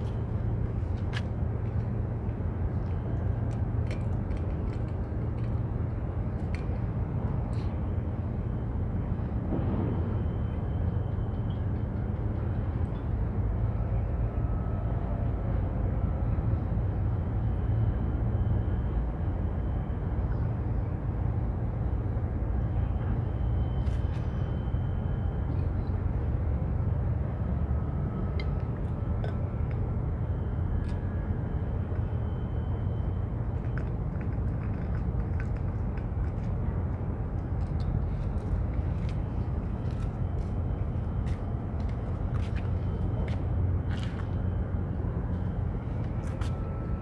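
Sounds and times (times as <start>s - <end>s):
harbourside background rumble: 0.0s - 47.0s.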